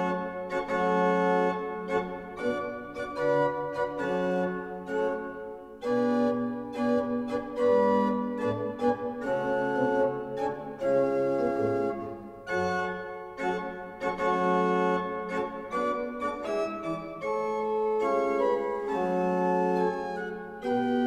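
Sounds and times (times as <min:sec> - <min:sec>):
organ playing slow chords: 0:00.0 - 0:21.0.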